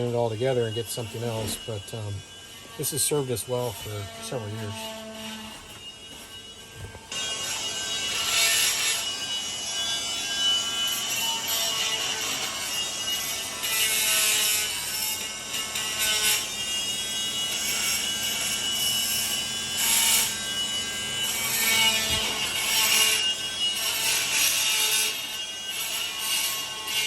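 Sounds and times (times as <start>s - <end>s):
power sander on metal: 0.0s - 27.0s.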